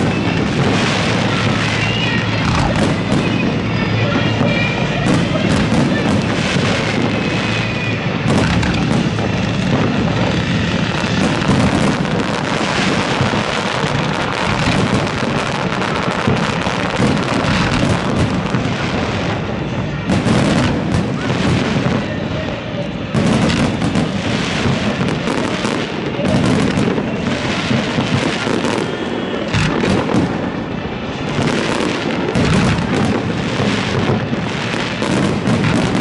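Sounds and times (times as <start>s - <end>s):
fireworks booming and crackling: 0.0s - 36.0s.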